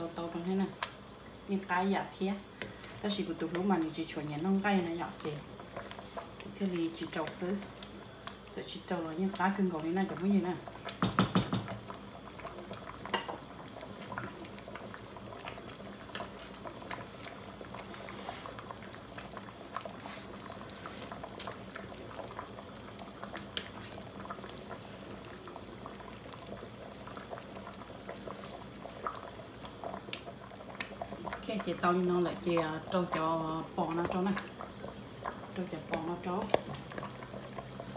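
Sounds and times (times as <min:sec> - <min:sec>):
soup boiling with bubbling and pops: 0:00.0 - 0:37.9.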